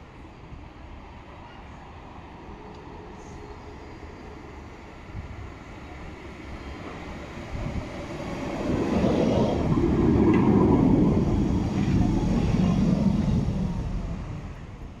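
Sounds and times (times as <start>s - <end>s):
tram running on rails: 0.0s - 15.0s.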